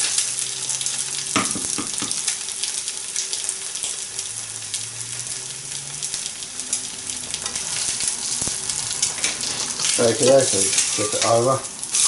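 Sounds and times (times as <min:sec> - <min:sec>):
egg sizzling and crackling in pan: 0:00.0 - 0:12.0.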